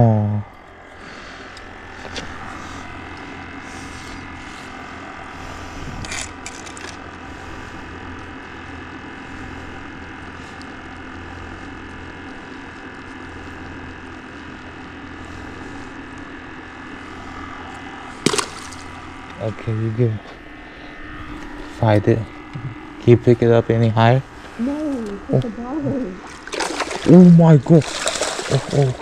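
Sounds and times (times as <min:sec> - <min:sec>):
mechanical hum: 0:00.0 - 0:29.0.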